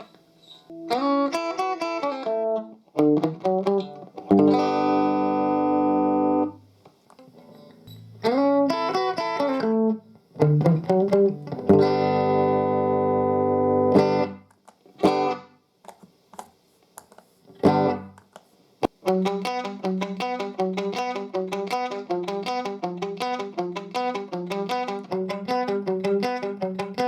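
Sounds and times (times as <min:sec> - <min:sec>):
electric guitar notes and chords: 0:00.7 - 0:06.6, 0:07.2 - 0:15.5, 0:17.6 - 0:18.2, 0:19.0 - 0:27.0.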